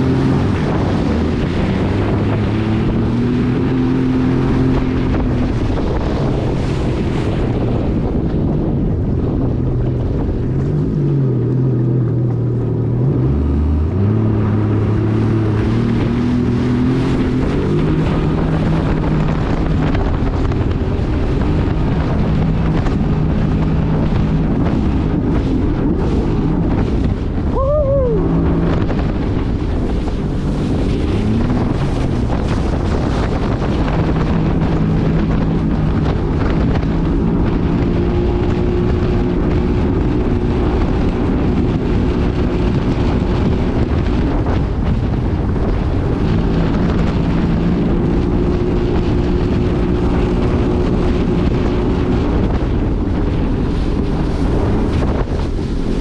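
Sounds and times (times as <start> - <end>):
jet ski engine running: 0.0 - 56.0
rushing water: 0.0 - 56.0
wind noise on microphone: 0.0 - 56.0.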